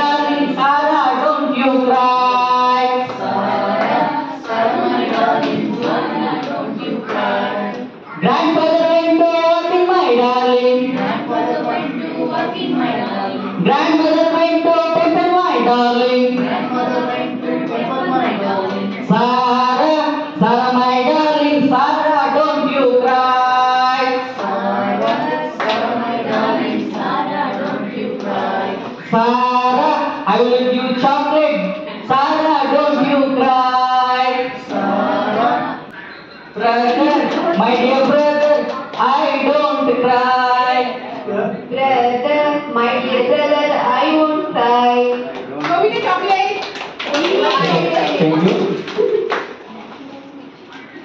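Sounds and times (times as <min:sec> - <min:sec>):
group singing without instruments: 0:00.0 - 0:43.9.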